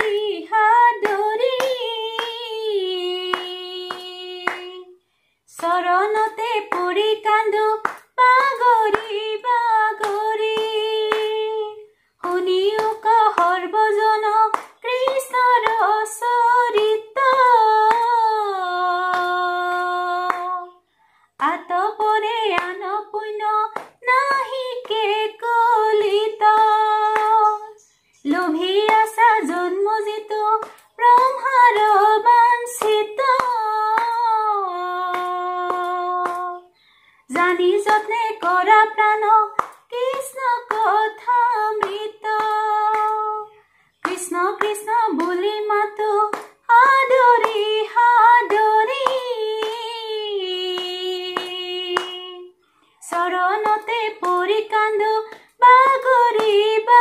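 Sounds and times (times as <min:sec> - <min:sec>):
hand claps: 0:00.0 - 0:04.9, 0:05.5 - 0:20.8, 0:21.4 - 0:57.0
woman singing unaccompanied: 0:00.0 - 0:57.0.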